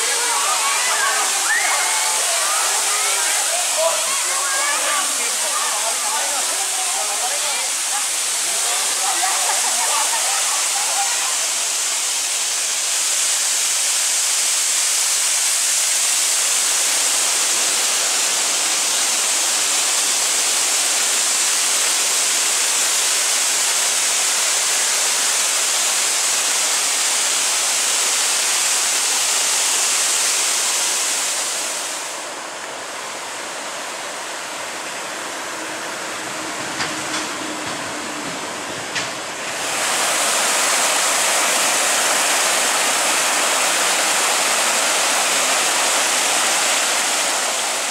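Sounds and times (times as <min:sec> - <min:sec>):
waterfall rushing over rocks: 0:00.0 - 0:47.9.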